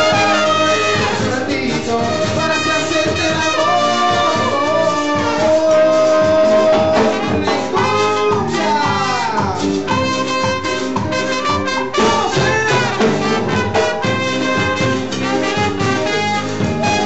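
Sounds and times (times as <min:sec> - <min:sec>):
band playing instrumental: 0:00.0 - 0:17.0
brass melody: 0:00.0 - 0:17.0.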